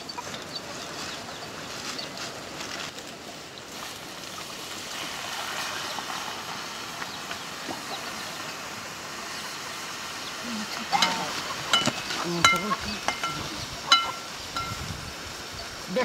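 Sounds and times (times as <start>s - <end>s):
burning wood crackling: 0.0s - 16.0s
water pouring and sizzling: 0.0s - 16.0s.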